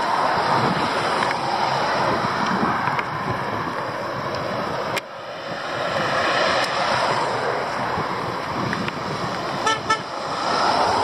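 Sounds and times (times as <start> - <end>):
car approaching: 0.0 - 11.0
traffic road noise: 0.0 - 11.0
wind buffeting microphone: 0.0 - 11.0.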